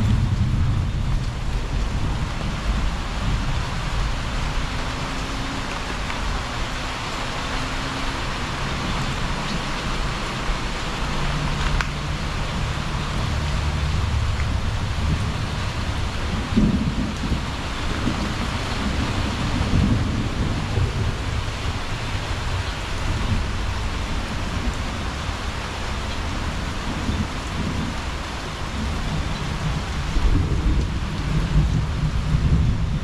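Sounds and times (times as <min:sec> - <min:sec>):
heavy rain: 0:00.0 - 0:33.0
strong wind: 0:00.0 - 0:33.0.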